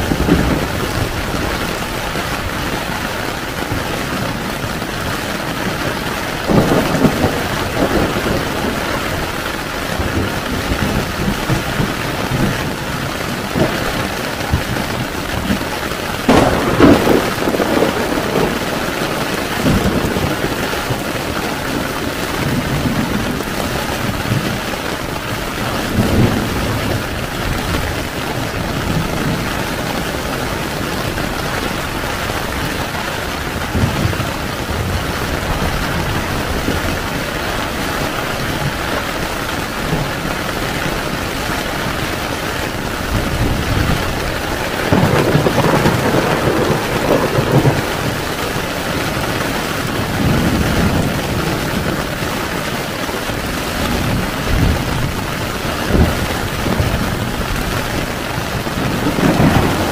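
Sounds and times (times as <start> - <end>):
heavy rain on a tent: 0.0 - 59.9
thunder rolling: 0.0 - 59.9.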